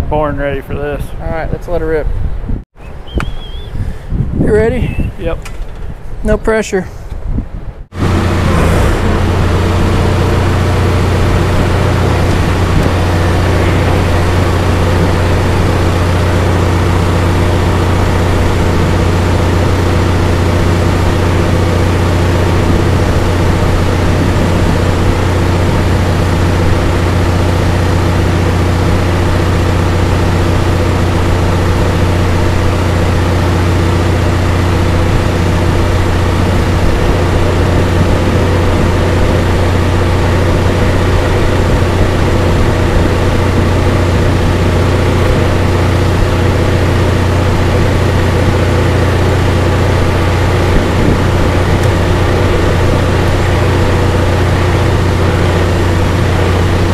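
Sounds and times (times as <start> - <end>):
engine running steadily: 7.7 - 56.9.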